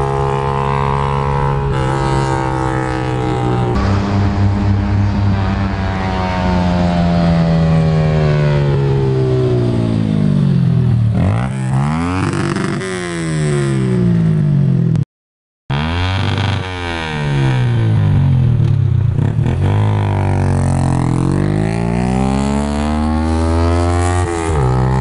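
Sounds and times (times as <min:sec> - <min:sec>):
motorcycle engine revving: 0:00.0 - 0:15.0, 0:15.7 - 0:25.0.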